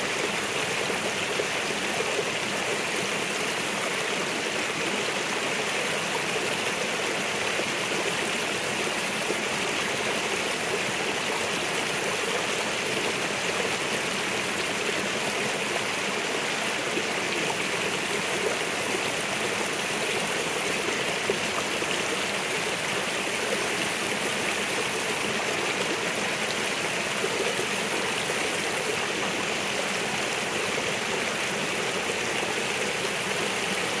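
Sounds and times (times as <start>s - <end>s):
creek splashing down rocky cascade: 0.0s - 34.0s.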